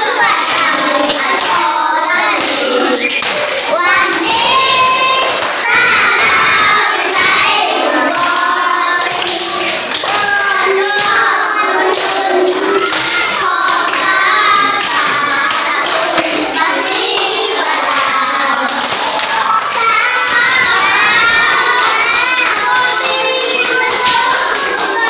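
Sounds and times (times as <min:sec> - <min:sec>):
children clapping hands: 0:00.0 - 0:25.0
children singing together: 0:00.0 - 0:25.0.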